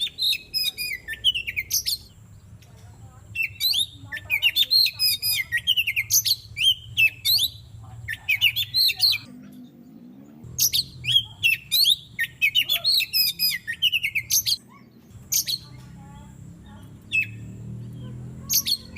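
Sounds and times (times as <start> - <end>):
bird singing whistled notes: 0.0 - 2.5, 3.3 - 9.3, 10.0 - 18.9.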